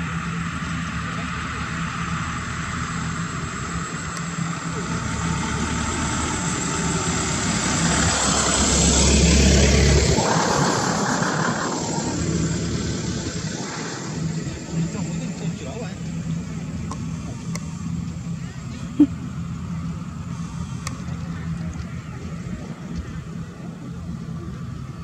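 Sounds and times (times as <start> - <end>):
airliner engine roar: 0.0 - 25.0.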